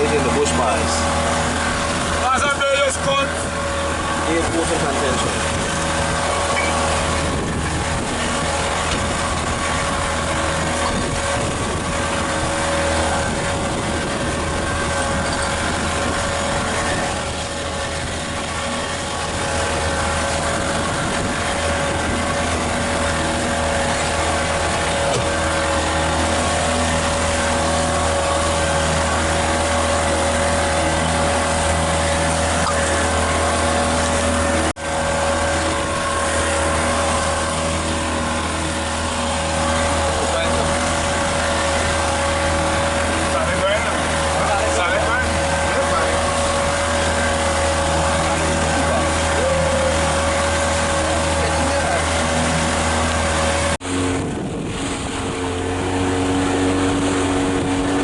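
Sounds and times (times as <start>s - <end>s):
motorboat engine running: 0.0s - 58.0s
wind and water rushing: 0.0s - 58.0s.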